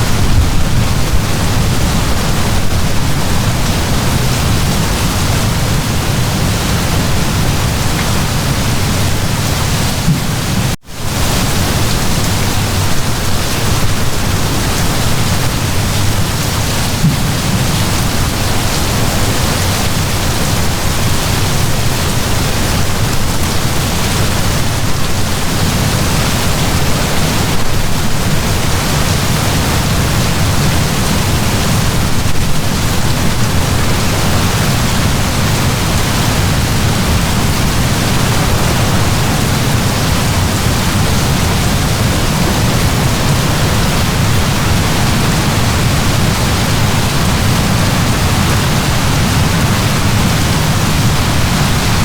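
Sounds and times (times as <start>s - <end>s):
heavy rain hiss: 0.0s - 52.0s.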